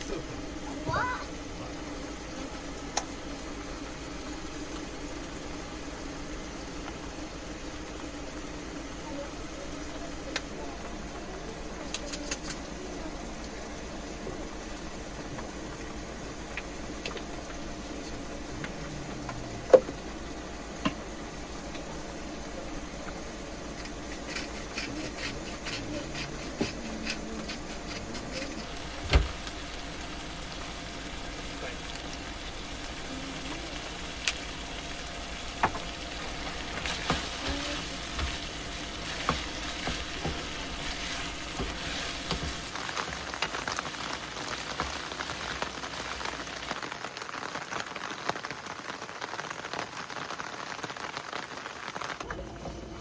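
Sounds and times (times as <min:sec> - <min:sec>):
food sizzling in a frying pan: 0:00.0 - 0:52.3.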